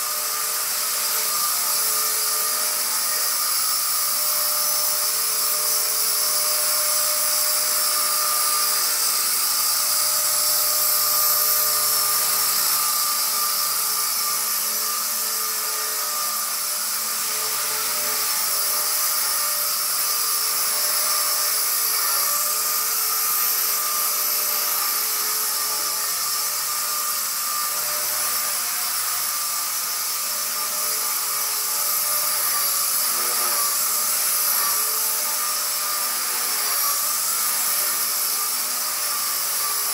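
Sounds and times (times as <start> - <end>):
rc helicopter rotor whine: 0.0 - 39.9.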